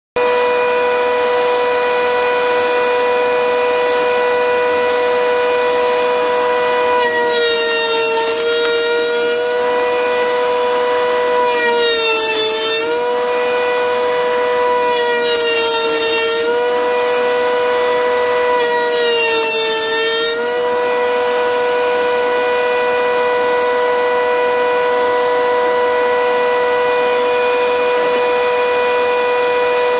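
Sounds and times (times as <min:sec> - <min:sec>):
router high whine: 0:00.2 - 0:29.9.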